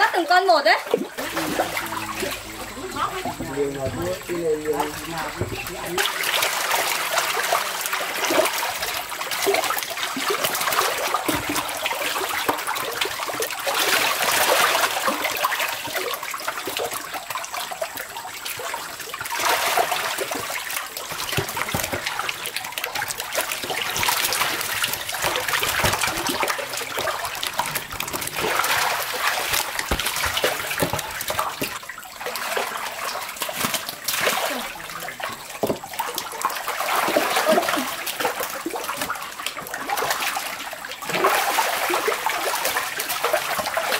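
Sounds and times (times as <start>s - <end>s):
basket scooping through water: 1.1s - 43.9s
fish thrashing in shallow water: 1.2s - 43.9s.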